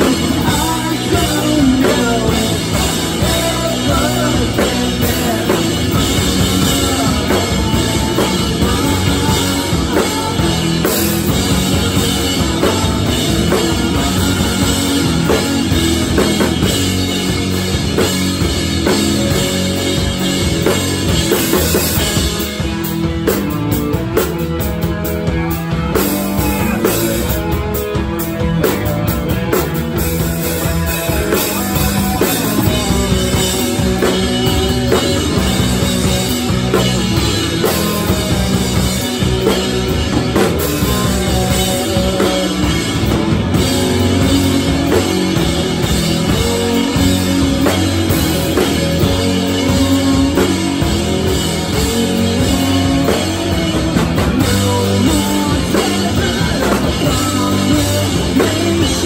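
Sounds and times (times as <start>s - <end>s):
drums and cymbals: 0.0s - 59.0s
electric guitars: 0.0s - 59.0s
rock band playing live: 0.0s - 59.0s.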